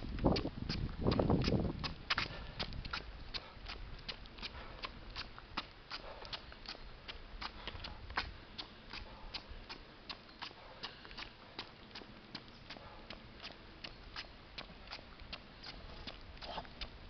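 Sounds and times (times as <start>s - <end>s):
running footsteps on asphalt: 0.0s - 17.0s.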